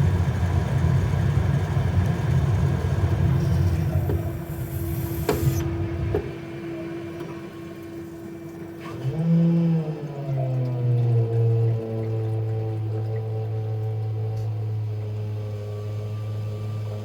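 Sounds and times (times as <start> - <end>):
water heater low rumble: 0.0 - 17.0.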